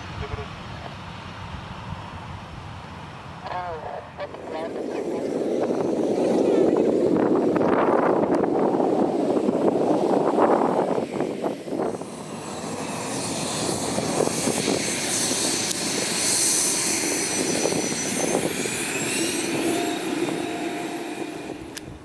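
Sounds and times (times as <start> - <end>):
jet engines passing: 0.0 - 22.0.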